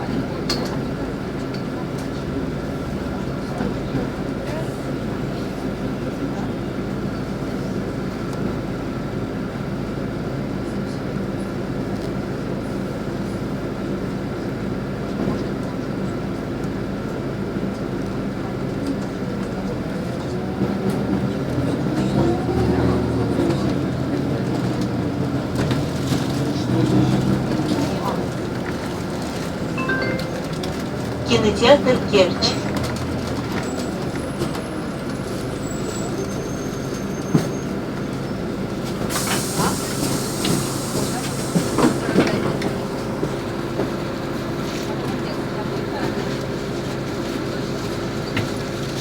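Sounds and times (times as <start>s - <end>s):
bus engine humming: 0.0s - 49.0s.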